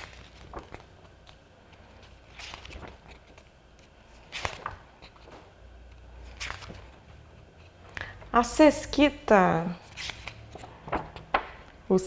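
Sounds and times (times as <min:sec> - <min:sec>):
book pages turning: 0:00.0 - 0:08.3, 0:09.7 - 0:11.9.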